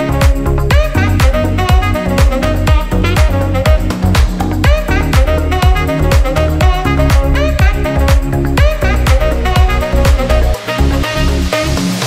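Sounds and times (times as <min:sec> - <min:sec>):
kick drum: 0:00.0 - 0:12.0
upbeat electronic music: 0:00.0 - 0:12.0.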